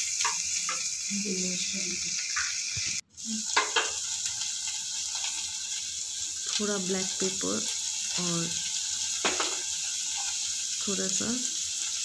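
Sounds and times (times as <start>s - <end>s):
corn sizzling in butter: 0.0s - 12.0s.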